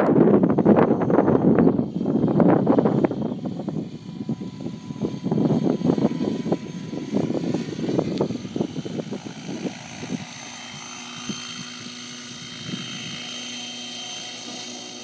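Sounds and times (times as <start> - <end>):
helicopter rotor chop: 0.0 - 15.0
helicopter whine: 0.0 - 15.0.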